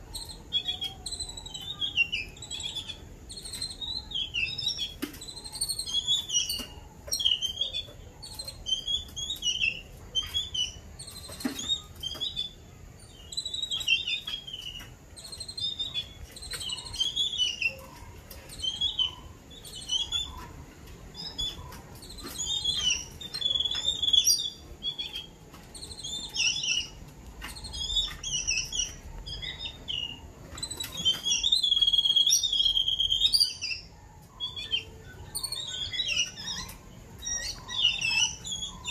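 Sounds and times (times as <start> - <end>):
birds chattering harsh calls: 0.0 - 38.9.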